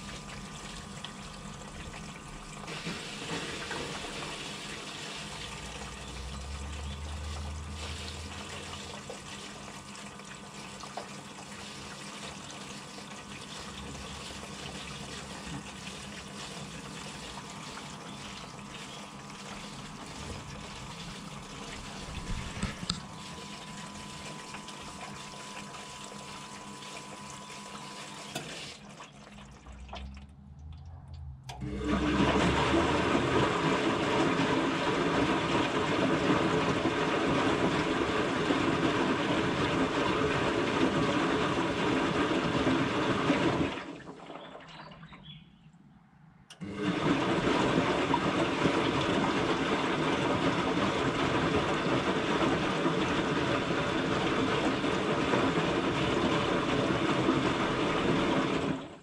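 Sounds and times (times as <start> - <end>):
water rushing into washing machine: 0.0 - 45.4, 46.5 - 59.0.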